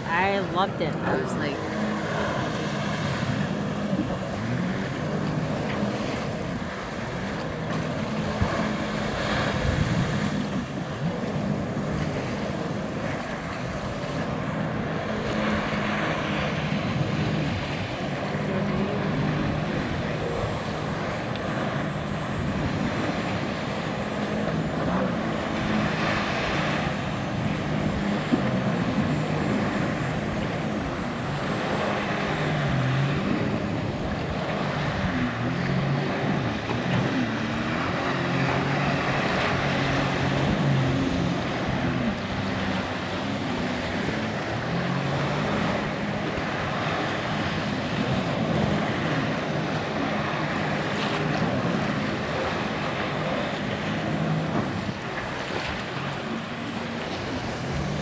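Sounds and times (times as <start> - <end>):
jet ski engine revving: 0.0 - 58.0
wind and water wash: 0.0 - 58.0.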